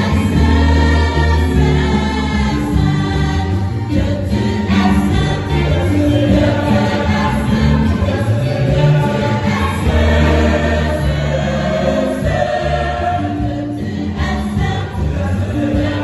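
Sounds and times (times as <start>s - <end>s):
mixed choir singing a hymn: 0.0s - 16.0s.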